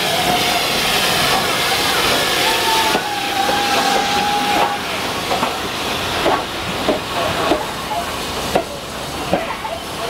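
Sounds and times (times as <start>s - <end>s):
steam hissing: 0.0s - 10.0s
steam locomotive running past: 0.0s - 10.0s.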